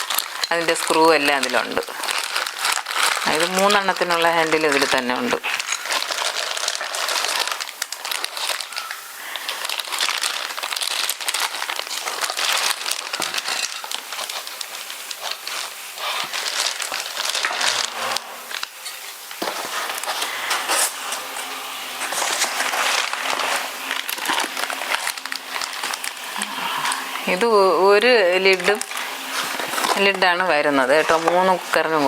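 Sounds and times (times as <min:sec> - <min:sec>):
packaging crinkling: 0:00.0 - 0:32.0.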